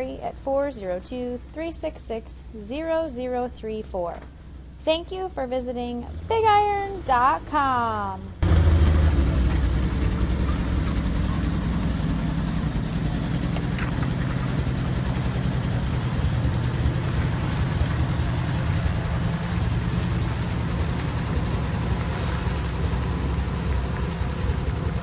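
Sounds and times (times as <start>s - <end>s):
truck engine idling: 4.2s - 25.0s.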